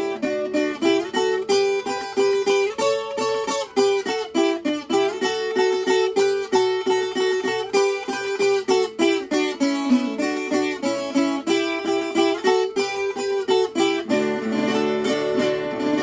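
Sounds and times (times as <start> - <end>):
plucked and strummed guitar: 0.0 - 16.0.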